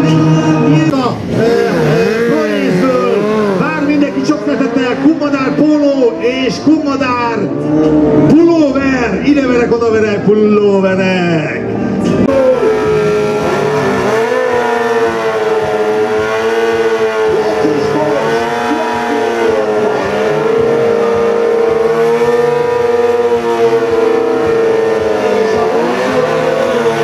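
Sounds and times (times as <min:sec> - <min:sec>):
motorcycle engine at high revs: 0:00.0 - 0:08.4, 0:12.2 - 0:27.0.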